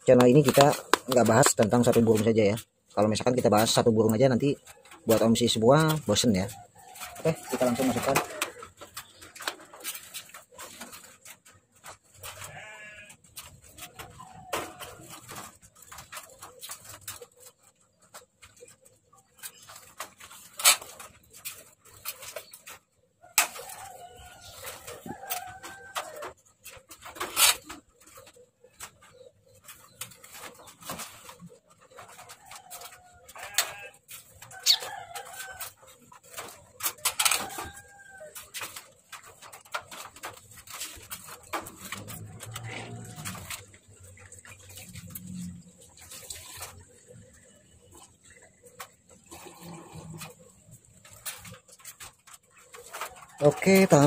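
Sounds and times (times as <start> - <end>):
wire mesh rattling: 0.0 - 54.0
farm animal calls: 0.1 - 22.7, 23.3 - 54.0.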